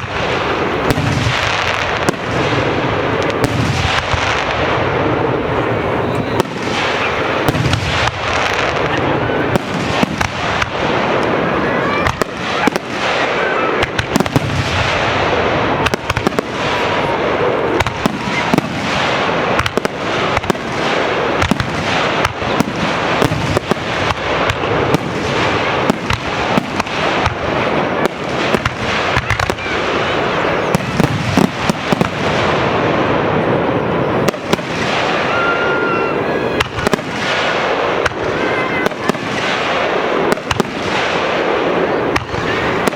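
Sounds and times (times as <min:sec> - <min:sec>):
fireworks bangs: 0:00.0 - 0:42.9
fireworks crackling: 0:00.0 - 0:42.9.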